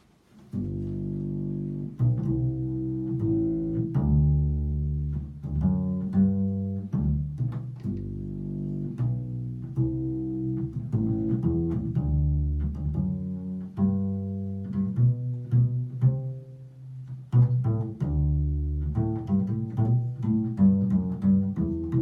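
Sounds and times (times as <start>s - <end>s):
double bass melody: 0.4s - 22.0s.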